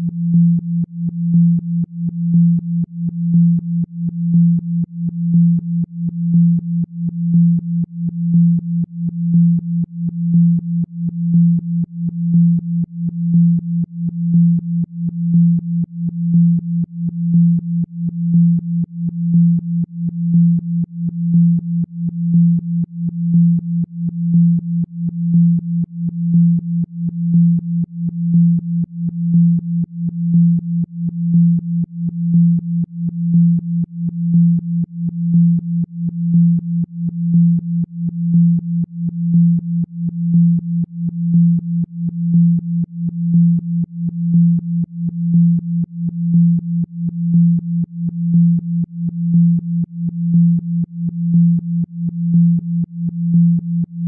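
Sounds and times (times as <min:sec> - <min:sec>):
pulsing pure low tone: 0:00.0 - 0:54.0.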